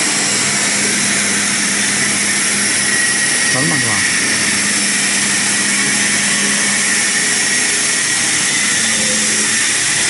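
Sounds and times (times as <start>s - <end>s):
steady low hum: 0.0s - 9.6s
faint high whine: 0.0s - 10.0s
lathe running with loud hiss: 0.0s - 10.0s.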